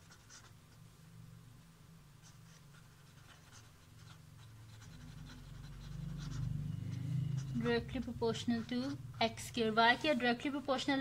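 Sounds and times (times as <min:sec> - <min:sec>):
pen scratching on paper: 0:00.0 - 0:00.8, 0:02.2 - 0:10.4
low steady hum: 0:00.0 - 0:11.0.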